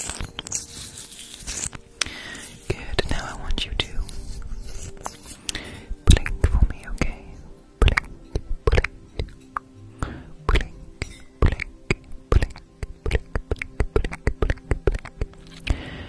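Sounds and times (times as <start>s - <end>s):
faint steady background tone: 0.0s - 16.0s.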